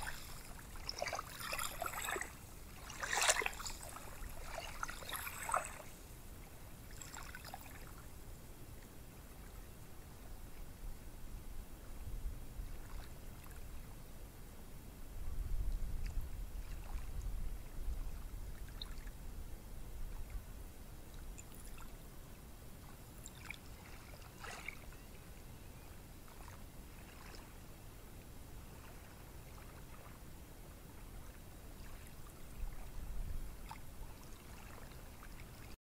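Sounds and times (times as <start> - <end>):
gentle ocean surf: 0.0 - 12.0, 18.6 - 35.8.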